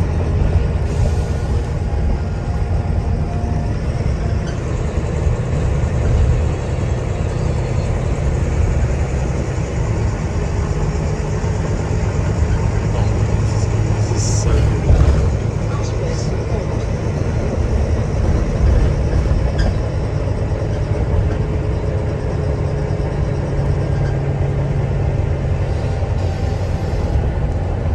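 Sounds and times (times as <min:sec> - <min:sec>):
bus diesel engine rumble: 0:00.0 - 0:27.9
road noise: 0:00.0 - 0:27.9.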